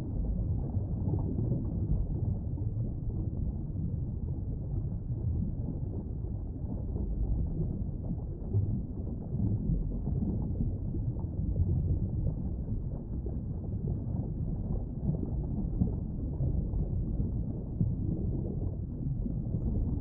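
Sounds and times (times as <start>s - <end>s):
underwater rumble: 0.0s - 20.0s.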